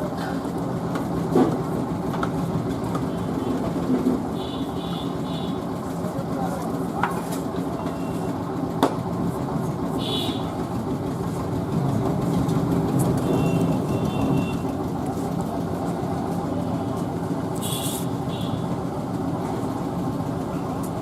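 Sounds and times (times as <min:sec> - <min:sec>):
engines and road traffic rumble: 0:00.0 - 0:21.0.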